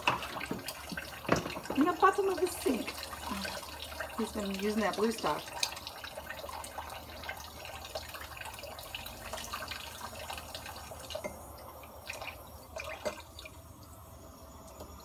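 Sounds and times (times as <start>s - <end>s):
water dripping: 0.0s - 15.0s
water running into sink: 0.0s - 15.0s.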